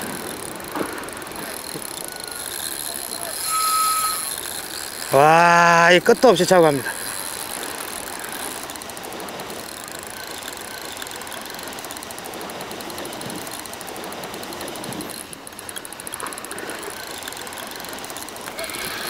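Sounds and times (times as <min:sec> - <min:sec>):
fishing reel drag ticking: 0:00.0 - 0:19.0
sea: 0:00.0 - 0:19.0
wind: 0:00.0 - 0:19.0.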